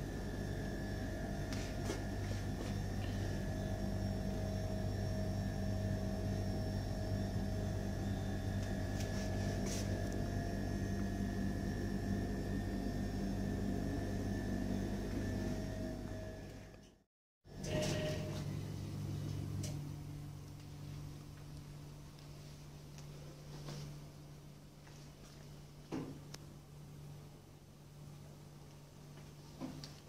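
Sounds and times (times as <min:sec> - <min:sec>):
machine hum with held tones: 0:00.0 - 0:29.0.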